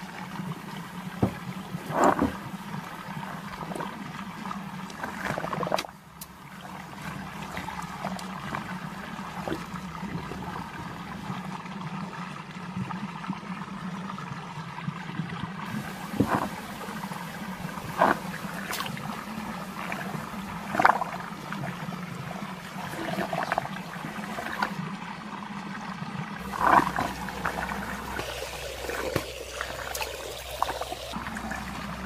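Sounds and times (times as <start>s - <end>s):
steady low hum: 0.0s - 14.5s, 15.6s - 32.0s
water swirling and gurgling: 0.0s - 32.0s.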